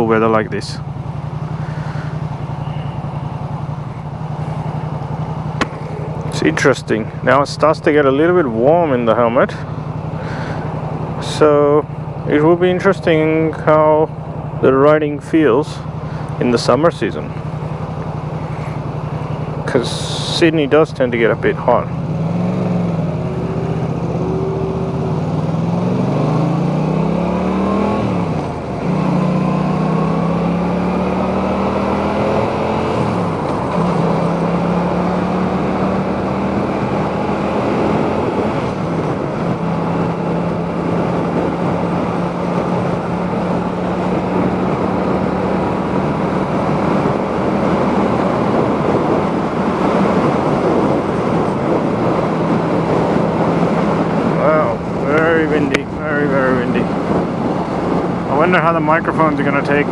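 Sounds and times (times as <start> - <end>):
motorcycle engine revving: 0.0 - 59.9
wind and road rush: 0.0 - 59.9.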